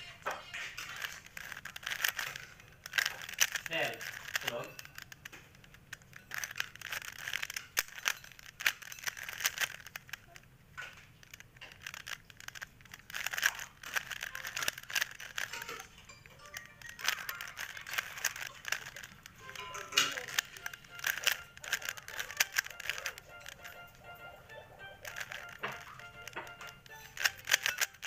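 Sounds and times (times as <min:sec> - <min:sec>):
puzzle cube clicking turns: 0:00.0 - 0:28.0.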